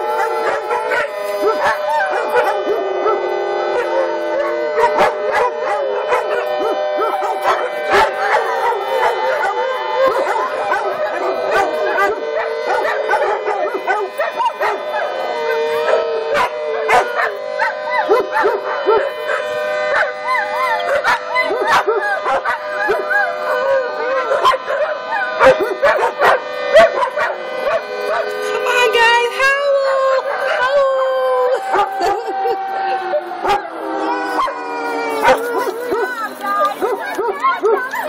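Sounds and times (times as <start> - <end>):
dogs barking and yipping: 0.0 - 38.0
dogs howling: 0.0 - 38.0
warning siren steady tone: 0.0 - 38.0.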